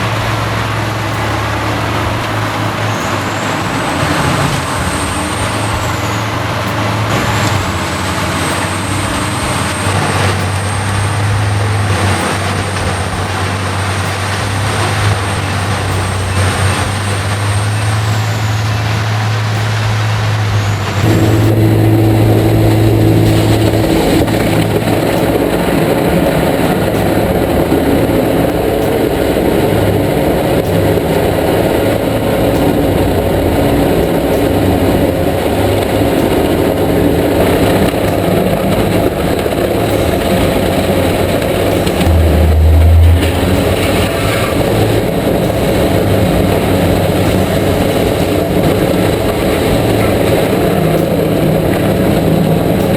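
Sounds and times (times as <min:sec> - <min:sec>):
dense machine grinding: 0:00.0 - 0:52.9
heavy machinery engine hum: 0:00.0 - 0:52.9.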